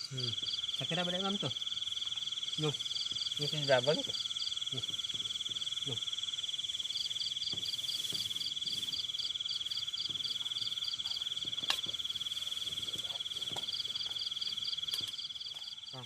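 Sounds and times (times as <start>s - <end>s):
insect chirping in pulses: 0.0s - 16.0s
insects trilling: 0.0s - 16.0s.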